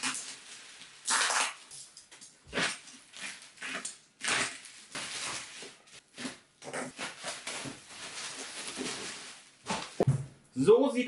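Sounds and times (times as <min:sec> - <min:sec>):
bubble wrap crinkling: 0:00.0 - 0:10.1.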